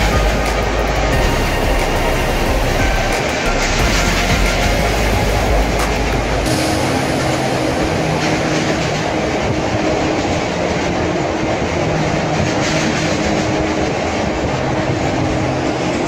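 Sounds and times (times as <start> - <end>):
rapid clatter of train on bridge: 0.0 - 16.0
train wheels rumbling on rails: 0.0 - 16.0.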